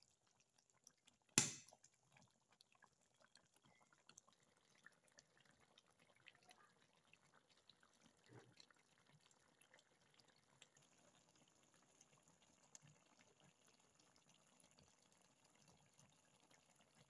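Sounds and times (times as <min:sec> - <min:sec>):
stew bubbling in a pan: 0:00.0 - 0:17.0.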